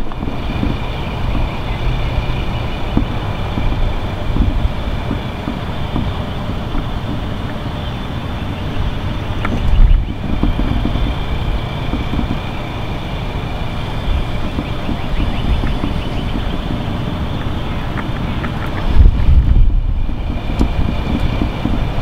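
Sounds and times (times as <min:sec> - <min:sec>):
high-pitched mechanical hum: 0:00.0 - 0:22.0
wind rumbling on microphone: 0:00.0 - 0:22.0.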